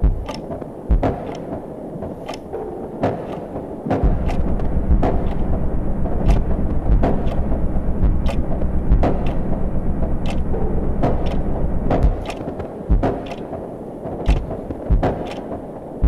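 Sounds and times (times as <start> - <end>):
sharp clicks: 0.0 - 15.7
wind buffeting microphone: 0.0 - 16.0.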